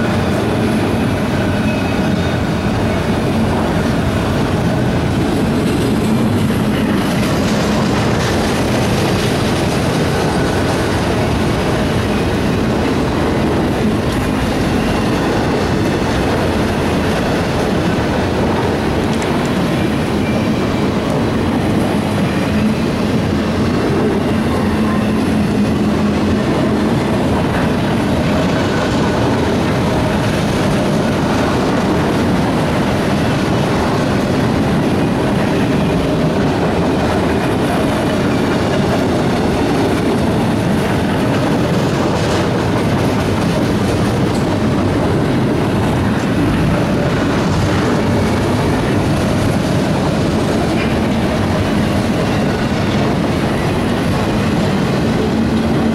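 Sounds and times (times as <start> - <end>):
freight train wheels on rail: 0.0 - 55.9.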